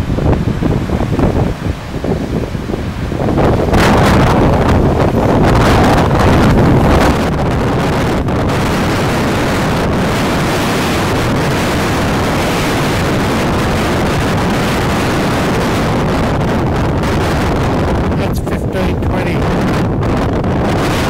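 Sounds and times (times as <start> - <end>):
surf breaking on rocks: 0.0 - 21.0
wind buffeting microphone: 0.0 - 21.0.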